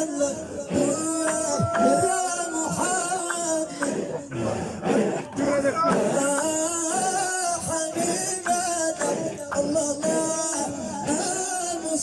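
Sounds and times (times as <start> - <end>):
man singing devotional chant: 0.0 - 12.0.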